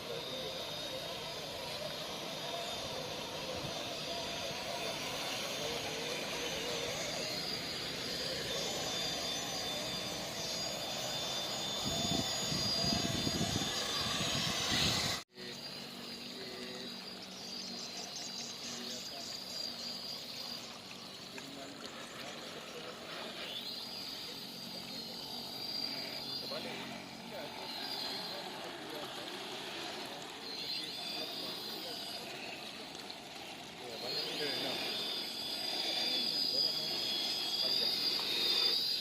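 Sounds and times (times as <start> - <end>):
electric motor and gearbox whining: 0.0 - 39.0.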